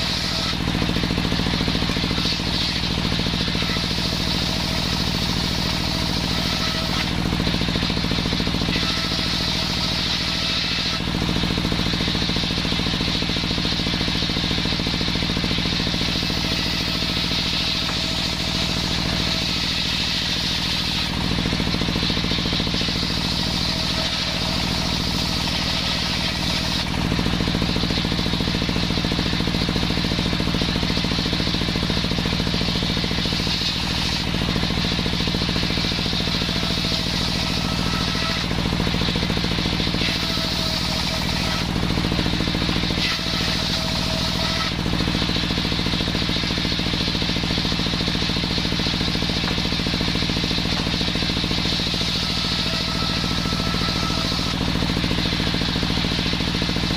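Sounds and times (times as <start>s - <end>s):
circular saw sawing wood: 0.0s - 56.9s.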